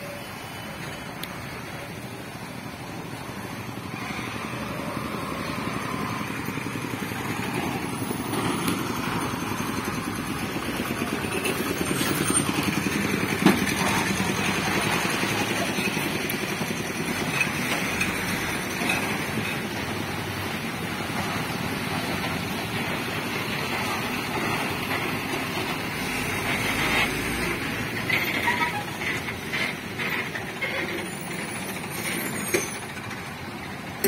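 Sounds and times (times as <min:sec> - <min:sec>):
road vehicle engines passing: 0:00.0 - 0:34.0.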